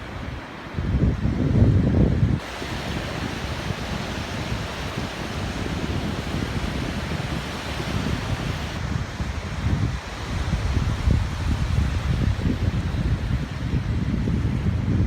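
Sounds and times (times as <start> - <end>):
surf hissing on beach: 0.0 - 15.0
wind buffeting microphone: 0.0 - 15.0.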